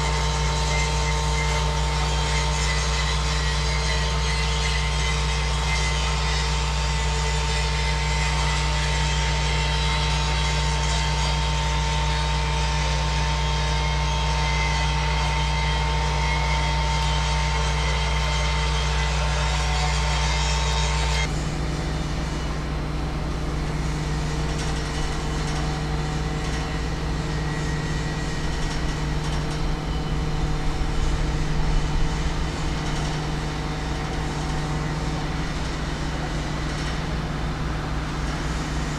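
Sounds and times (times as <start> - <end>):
machinery drone with whining tones: 0.0 - 38.9.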